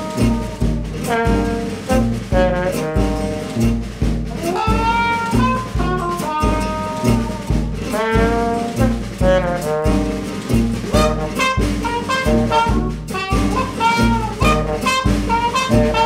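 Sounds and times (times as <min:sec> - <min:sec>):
bass line: 0:00.0 - 0:16.0
brass horns playing melody: 0:00.0 - 0:16.0.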